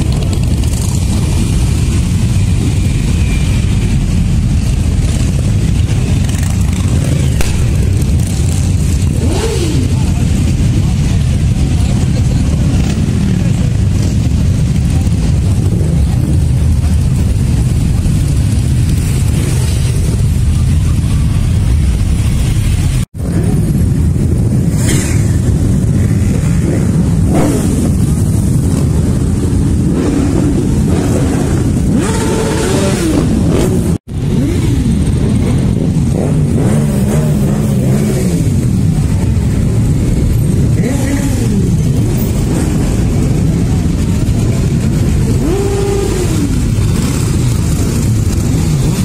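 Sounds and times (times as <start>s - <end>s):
motorcycle engines rumbling: 0.0s - 49.0s
motorcycles revving: 0.0s - 49.0s.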